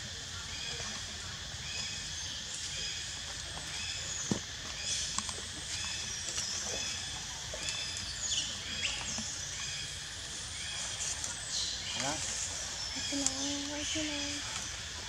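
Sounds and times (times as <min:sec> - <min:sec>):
outdoor background noise: 0:00.0 - 0:15.0
birds chirping: 0:01.6 - 0:15.0.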